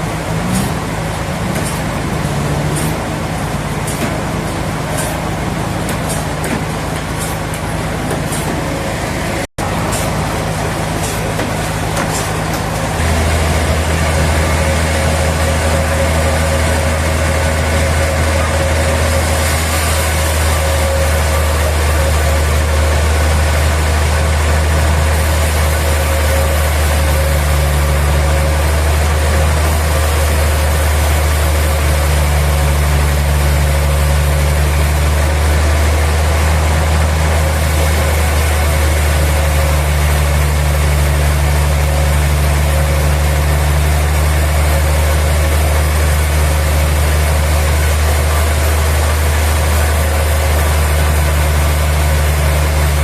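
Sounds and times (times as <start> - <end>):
sawmill machinery droning: 0.0 - 53.0.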